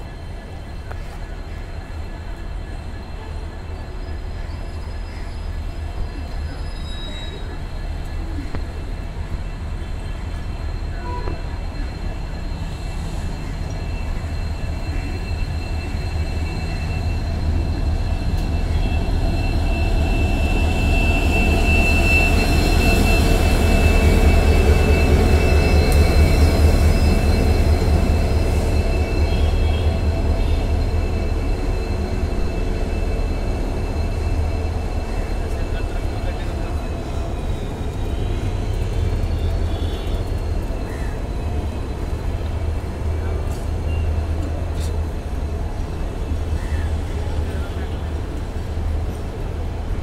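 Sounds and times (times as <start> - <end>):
diesel locomotive rumbling past: 0.0 - 50.0
train coaches rolling by: 0.0 - 50.0.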